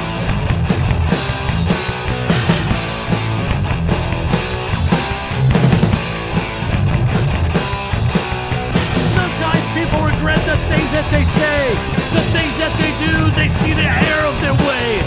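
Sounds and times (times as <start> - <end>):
bass guitar: 0.0 - 15.0
distorted electric guitars: 0.0 - 15.0
drum kit playing: 0.0 - 15.0.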